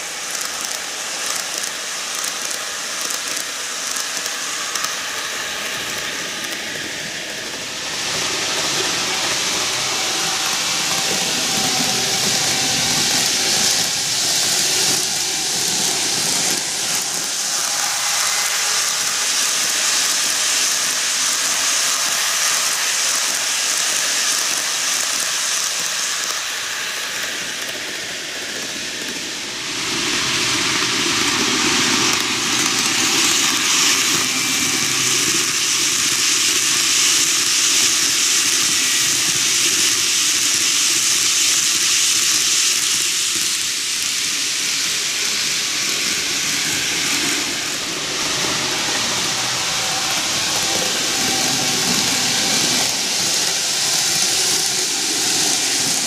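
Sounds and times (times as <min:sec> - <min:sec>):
model train whirring: 0:00.0 - 0:56.0.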